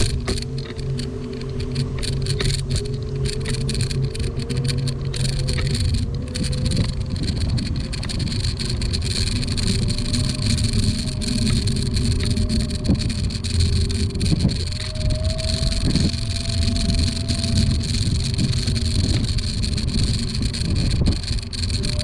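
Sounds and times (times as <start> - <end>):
electric motor whine: 0.0 - 22.0
tyres and wind rumble: 0.0 - 22.0.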